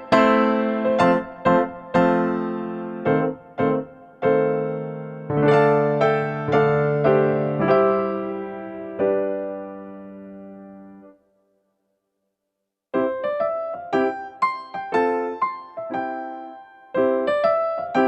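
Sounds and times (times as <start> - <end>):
slow piano melody: 0.0 - 11.4, 12.9 - 18.0.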